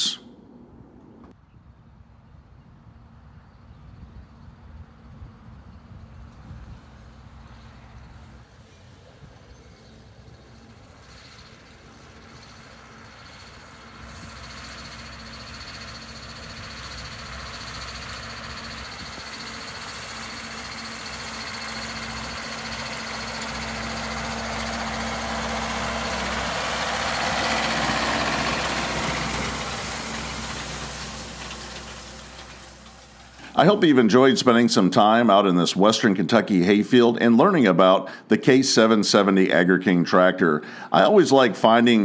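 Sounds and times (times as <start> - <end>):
tractor engine running: 4.7 - 39.6.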